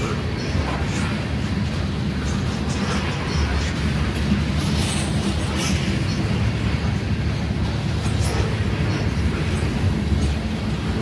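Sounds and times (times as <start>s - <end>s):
faint engine hum: 0.0s - 11.0s
freight train rolling past: 0.0s - 11.0s.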